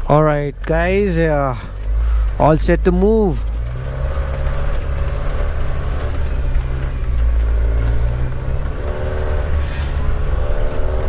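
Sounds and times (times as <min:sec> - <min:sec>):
car engine drone: 0:00.0 - 0:11.0
road noise inside car: 0:00.0 - 0:11.0.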